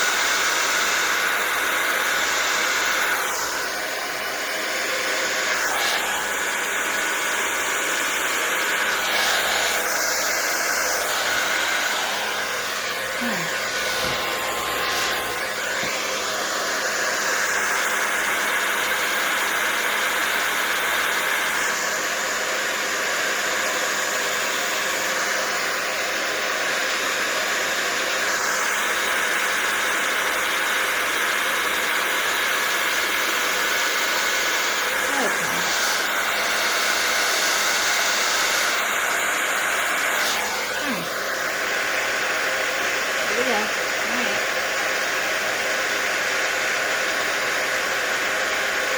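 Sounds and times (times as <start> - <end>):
blow dryer rushing air: 0.0 - 48.9.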